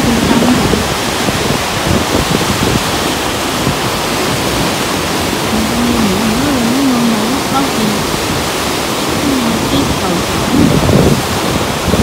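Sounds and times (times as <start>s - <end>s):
water rushing through dam gates: 0.0s - 12.0s.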